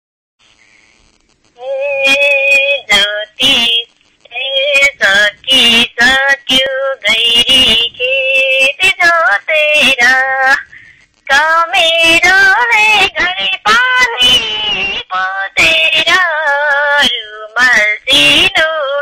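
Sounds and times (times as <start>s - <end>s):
woman singing: 1.6s - 19.0s.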